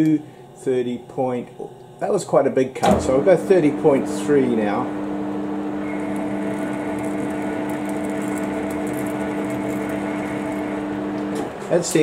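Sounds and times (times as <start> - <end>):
lathe running with humming tones: 0.0 - 12.0.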